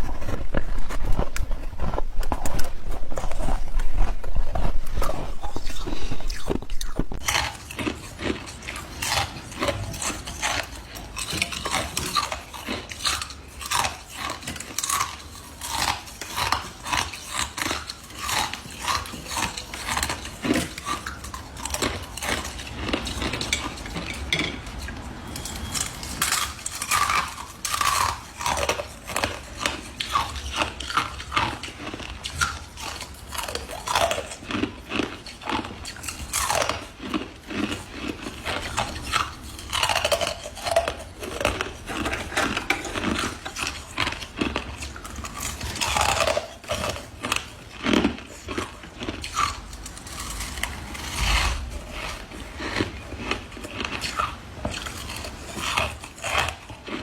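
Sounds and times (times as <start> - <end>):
ice crunching in mouth: 0.0 - 57.0.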